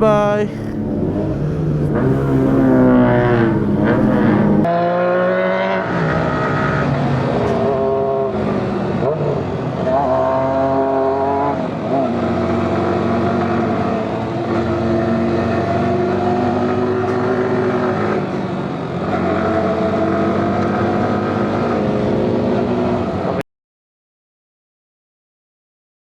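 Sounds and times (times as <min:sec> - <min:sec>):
motorcycle engine revving: 0:00.6 - 0:23.0.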